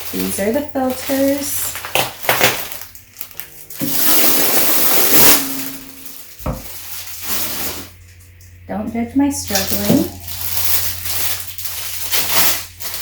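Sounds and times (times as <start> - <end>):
packaging rustling: 0.0 - 8.2, 9.6 - 13.0.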